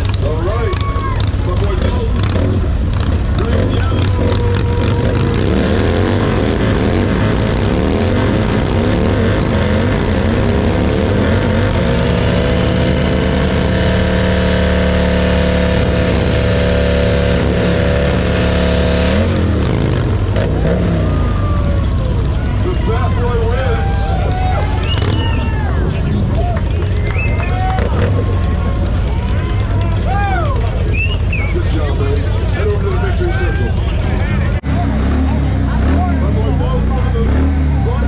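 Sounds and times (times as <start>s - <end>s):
rear tyre spinning: 0.0s - 34.6s
motorcycle engine revving: 0.0s - 38.0s.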